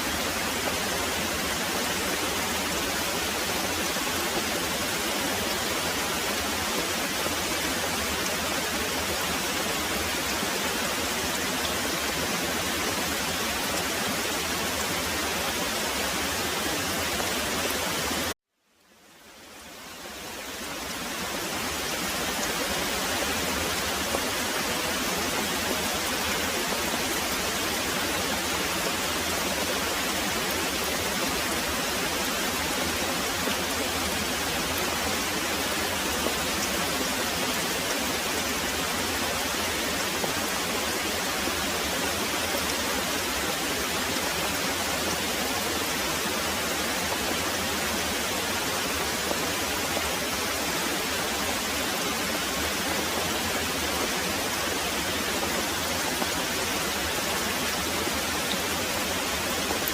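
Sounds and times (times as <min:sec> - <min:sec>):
heavy rain pouring: 0:00.0 - 0:18.4, 0:19.2 - 0:59.9.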